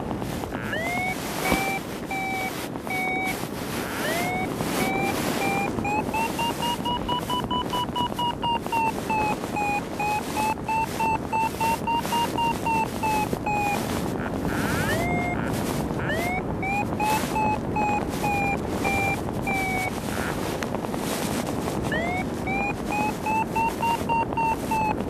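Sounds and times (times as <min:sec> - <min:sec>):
wind on microphone: 0:00.0 - 0:25.0
variometer beeping: 0:00.5 - 0:20.4, 0:21.8 - 0:25.0.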